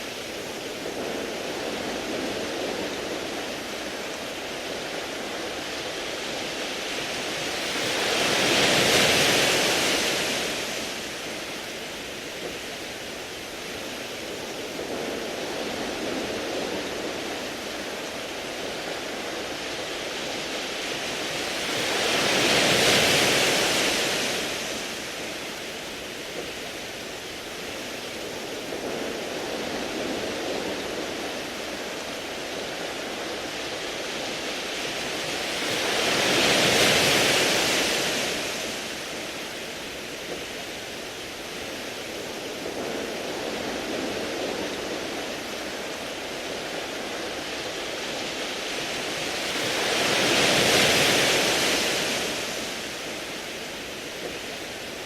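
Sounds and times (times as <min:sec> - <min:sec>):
waves breaking on pebble beach: 0:00.0 - 0:55.0.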